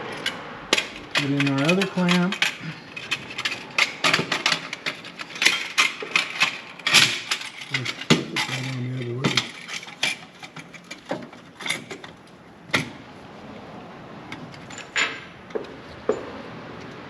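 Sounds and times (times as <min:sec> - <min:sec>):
metal clamps and pipe clinking: 0:00.0 - 0:12.9, 0:14.4 - 0:16.3.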